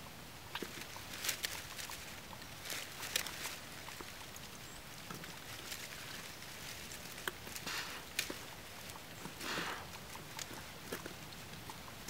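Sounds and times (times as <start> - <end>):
dry leaves rustling and crackling: 0.5 - 12.0.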